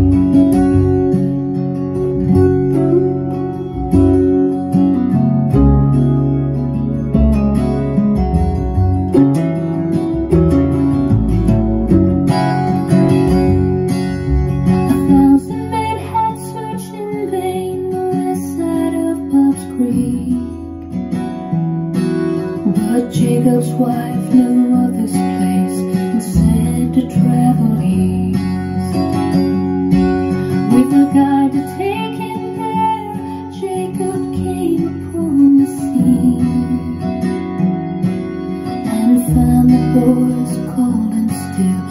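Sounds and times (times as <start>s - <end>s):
acoustic guitar folk ballad: 0.0s - 41.9s.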